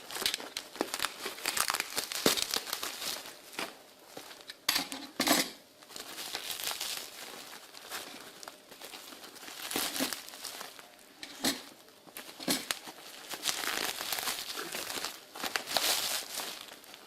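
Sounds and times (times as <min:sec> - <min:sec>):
packaging crinkling: 0:00.0 - 0:04.5, 0:05.8 - 0:17.0.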